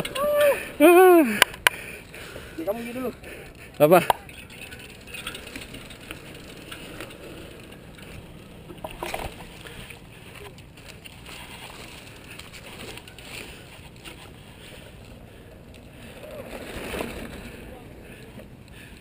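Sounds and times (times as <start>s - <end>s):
bike clicking and rattling: 0.0s - 19.0s
bike tyres rolling on dirt trail: 0.0s - 19.0s.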